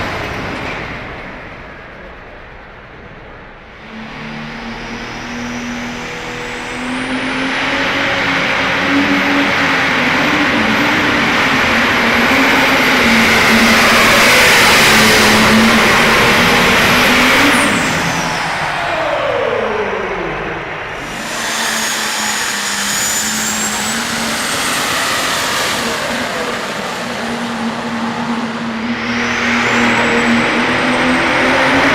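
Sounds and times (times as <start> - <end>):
engine at full power: 0.0 - 31.9.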